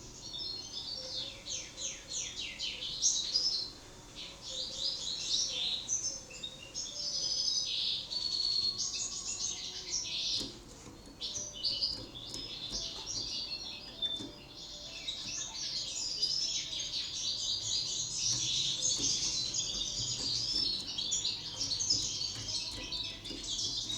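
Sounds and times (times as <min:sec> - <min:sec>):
canary singing: 0:00.0 - 0:23.9.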